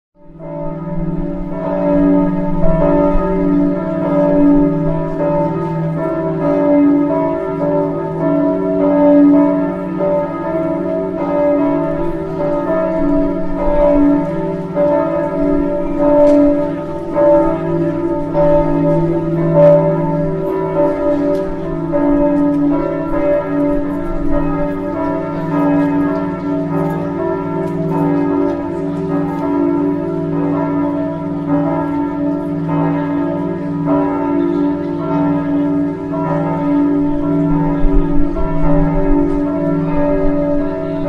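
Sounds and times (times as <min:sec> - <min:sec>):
church bells ringing: 0:00.2 - 0:41.0.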